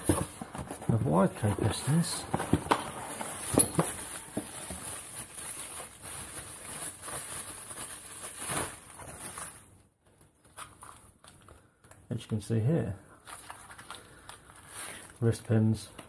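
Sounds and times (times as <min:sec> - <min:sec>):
cardboard and bubble wrap rustling: 0:00.0 - 0:12.0, 0:13.2 - 0:16.0.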